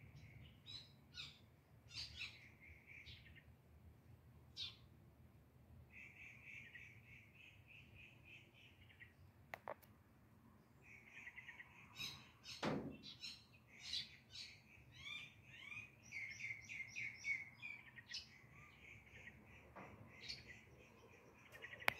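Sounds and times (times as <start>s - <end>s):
small birds chirping: 0.0s - 3.6s, 4.5s - 4.9s, 5.9s - 9.8s, 10.6s - 21.9s.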